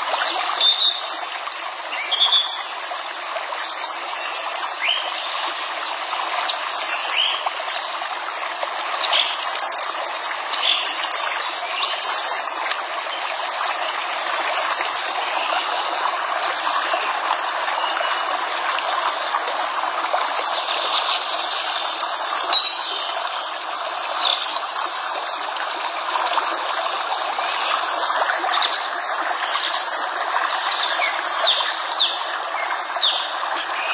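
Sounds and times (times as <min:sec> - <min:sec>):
running stream: 0:00.0 - 0:33.9.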